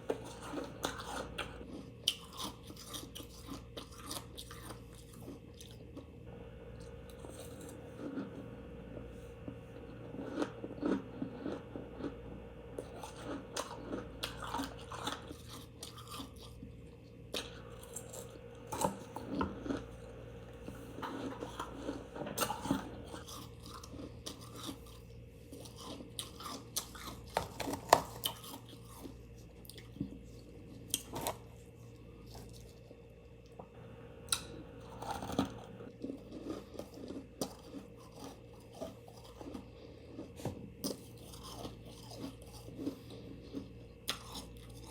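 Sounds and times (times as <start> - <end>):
person chewing crunchy ice: 0.0 - 6.1, 6.8 - 33.0, 34.3 - 44.9
faint steady hum: 0.0 - 44.9.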